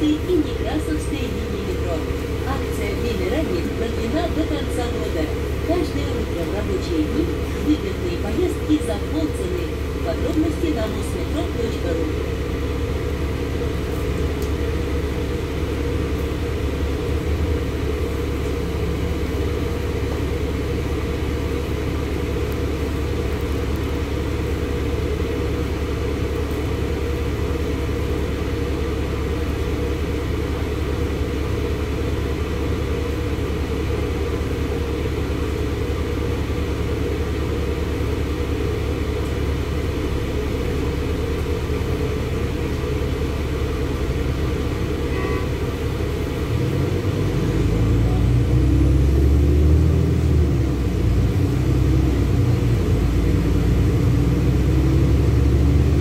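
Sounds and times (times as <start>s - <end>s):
bus diesel engine idling: 0.0s - 56.0s.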